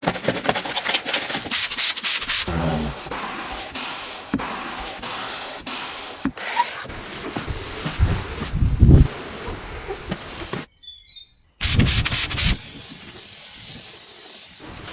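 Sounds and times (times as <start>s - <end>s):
scrubbing on a car: 0.2s - 10.7s, 11.6s - 14.9s
hissing wash spray: 1.4s - 10.7s, 11.6s - 14.9s.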